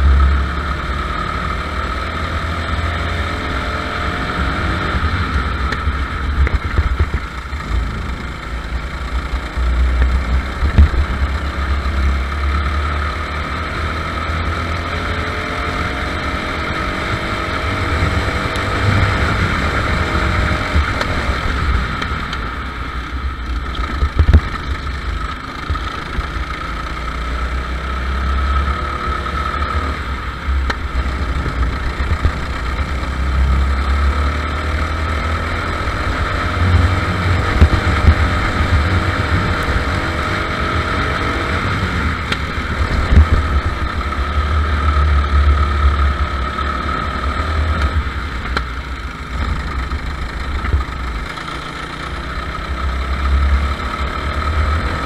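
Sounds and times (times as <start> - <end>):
go-kart engine accelerating: 0.0 - 55.0.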